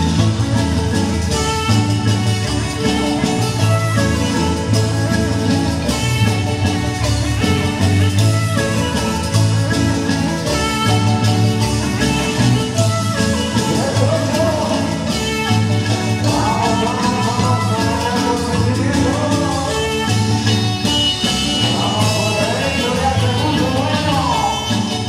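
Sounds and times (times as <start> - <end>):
marimba band playing dance music: 0.0 - 25.0.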